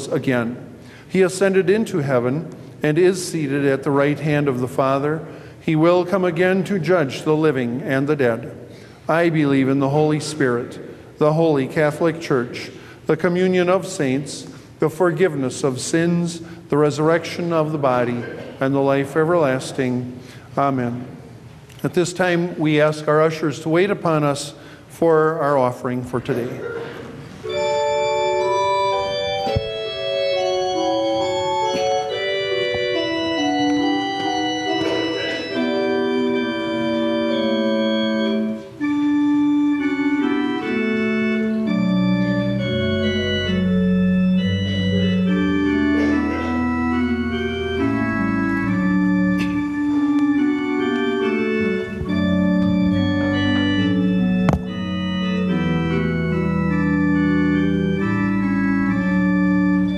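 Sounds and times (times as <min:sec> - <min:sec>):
church organ chords: 0:00.0 - 0:26.7, 0:27.3 - 0:59.9.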